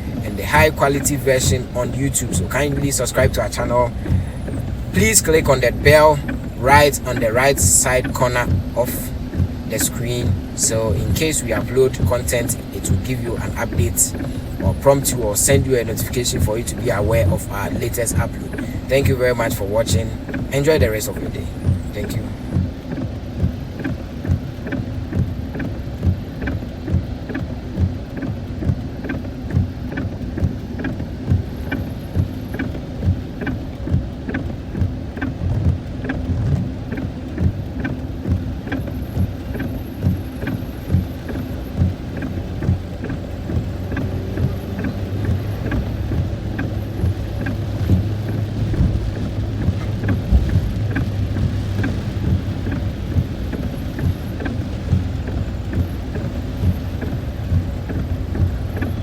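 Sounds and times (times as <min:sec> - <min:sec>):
car engine and road noise: 0:00.0 - 0:59.0
sharp regular ticking: 0:00.0 - 0:59.0
steady low hum: 0:00.0 - 0:59.0.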